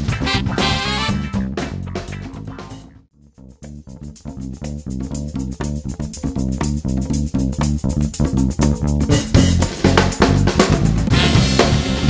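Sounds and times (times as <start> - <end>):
plucked guitar and bass music: 0.0 - 12.0.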